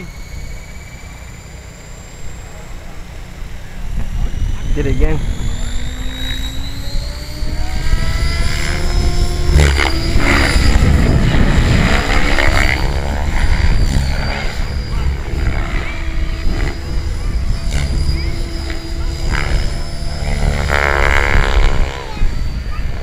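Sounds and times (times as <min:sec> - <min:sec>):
helicopter rotor chopping: 0:00.0 - 0:23.0
motor whine: 0:00.0 - 0:23.0.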